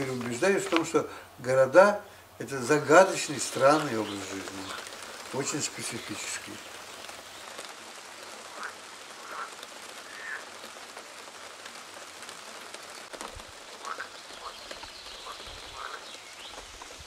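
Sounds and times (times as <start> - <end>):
rain on grass and leaves: 0.0 - 17.0.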